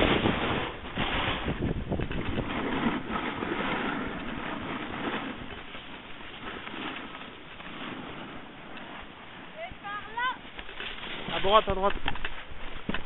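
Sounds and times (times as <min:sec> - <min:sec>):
skis sliding over packed snow: 0:00.0 - 0:13.0
wind rushing over microphone: 0:00.0 - 0:13.0.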